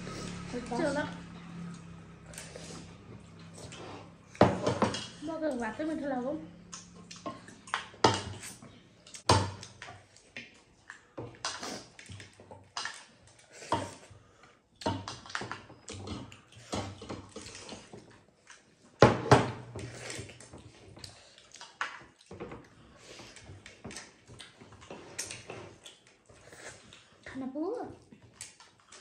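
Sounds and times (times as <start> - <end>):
chewing and mouth noises: 0.0 - 4.4, 6.5 - 19.0, 19.8 - 29.0.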